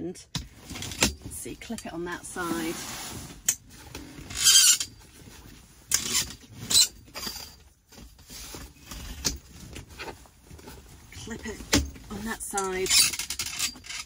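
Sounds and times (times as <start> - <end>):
canvas rustling: 0.5 - 13.2.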